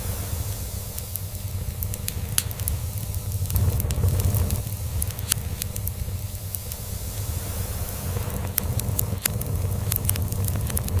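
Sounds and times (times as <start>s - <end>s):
log fire crackling: 0.0s - 11.0s.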